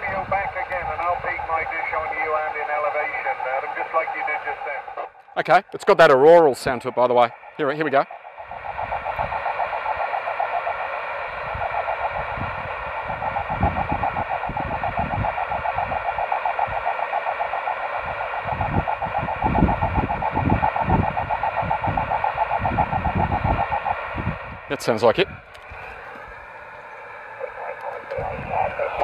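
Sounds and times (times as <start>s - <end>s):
fluttering buzzy radio tone: 0.0s - 29.0s
low rumbles: 5.2s - 29.0s.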